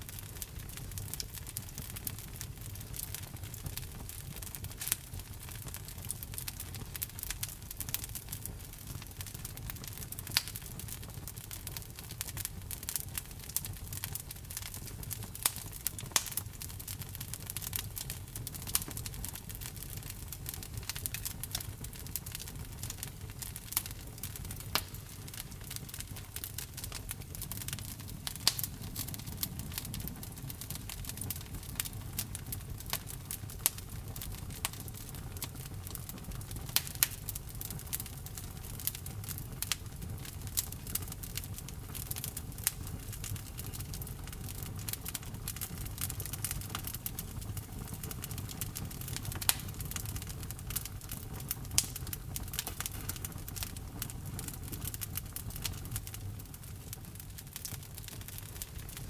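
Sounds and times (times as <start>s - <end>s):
burning logs popping: 0.0s - 59.0s
fire low rumble: 0.0s - 59.0s
wood fire crackling: 0.0s - 59.0s.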